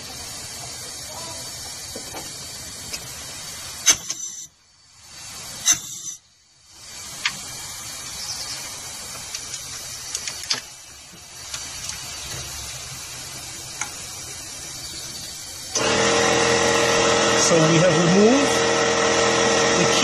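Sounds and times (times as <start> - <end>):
compressed air hissing: 0.0 - 20.0.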